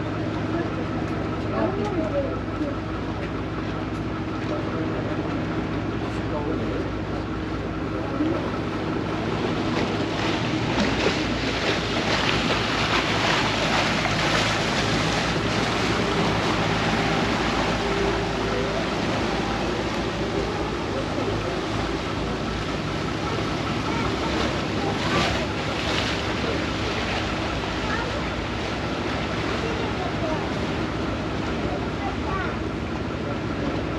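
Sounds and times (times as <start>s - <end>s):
boat engine humming: 0.0s - 33.9s
water splashing along hull: 0.0s - 33.9s.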